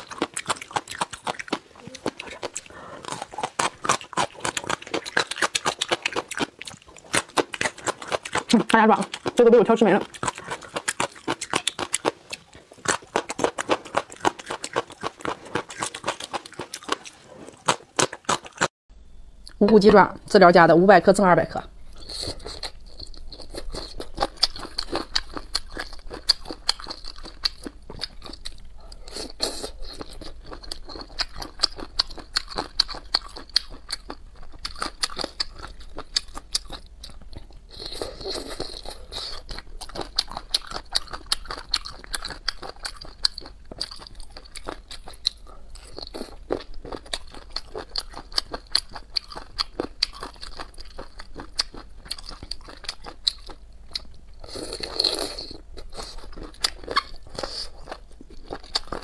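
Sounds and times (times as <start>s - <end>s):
crunchy chewing: 0.0s - 18.7s, 21.9s - 59.0s.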